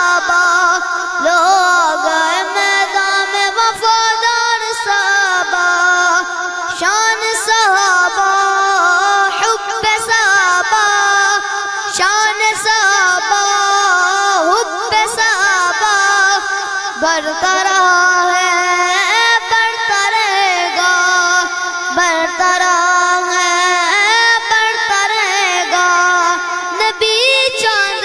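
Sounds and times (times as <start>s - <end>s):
boy singing into a microphone: 0.0s - 28.0s.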